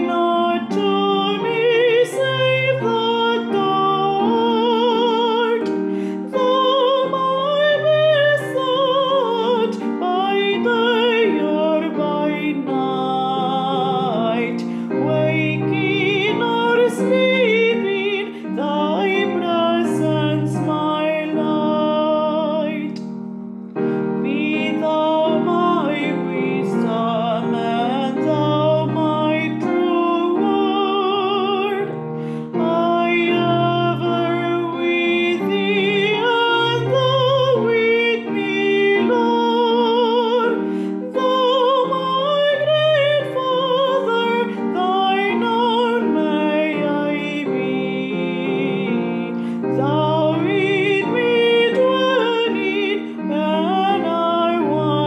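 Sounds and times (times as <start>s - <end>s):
woman singing with vibrato: 0.0s - 23.0s, 24.1s - 55.0s
piano accompaniment: 0.0s - 55.0s.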